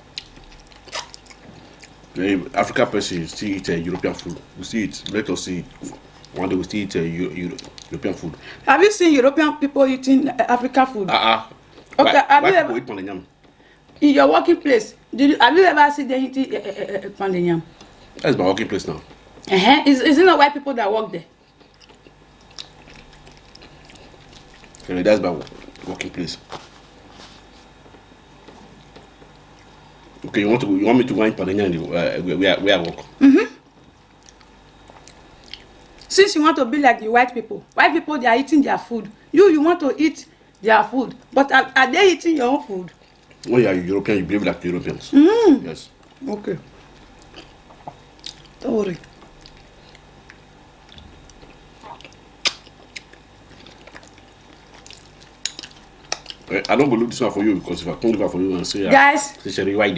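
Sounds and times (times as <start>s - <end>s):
soft chewing: 0.0s - 8.6s, 10.5s - 15.1s, 16.6s - 19.6s, 21.3s - 36.2s, 42.3s - 59.9s
faint eating sounds: 0.0s - 59.9s.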